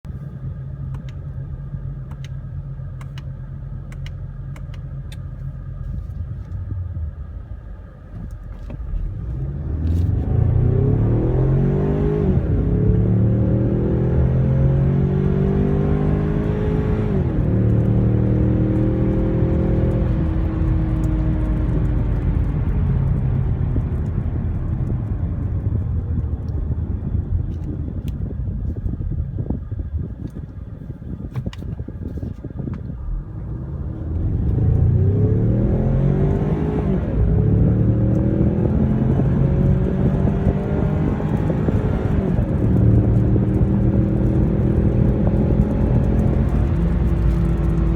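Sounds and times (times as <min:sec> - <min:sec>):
car engine idling and accelerating: 0:00.0 - 0:47.9.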